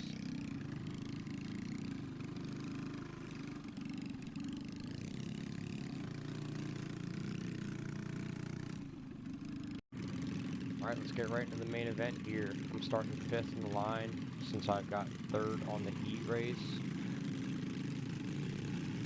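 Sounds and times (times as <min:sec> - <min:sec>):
minibike engines running: 0:00.0 - 0:19.0.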